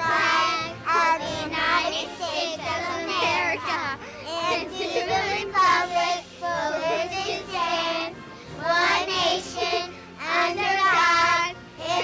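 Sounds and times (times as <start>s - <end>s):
musical accompaniment: 0.0s - 12.0s.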